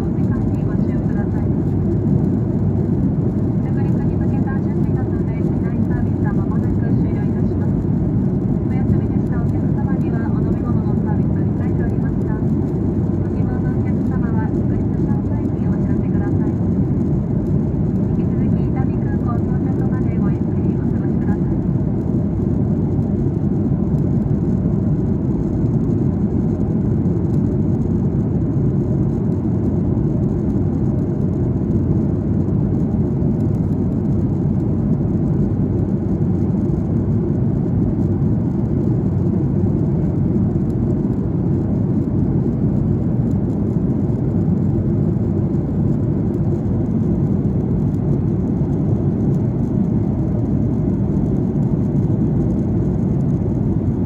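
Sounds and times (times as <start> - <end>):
airliner cabin engine noise: 0.0 - 54.0.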